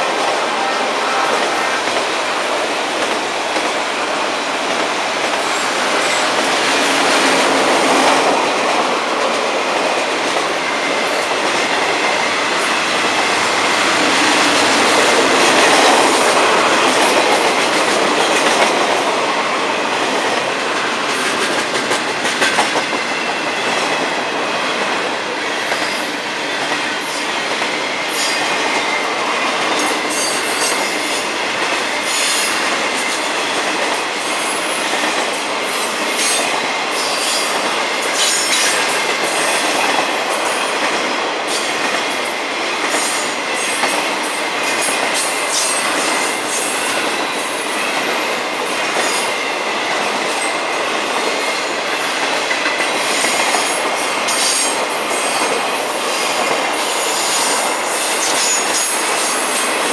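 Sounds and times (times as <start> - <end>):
train wheels rolling: 0.0 - 59.9.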